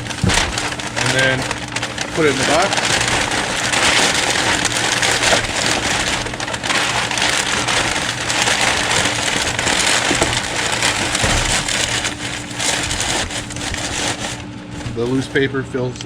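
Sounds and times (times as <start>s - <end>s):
paper crumpling and rustling: 0.0s - 15.4s.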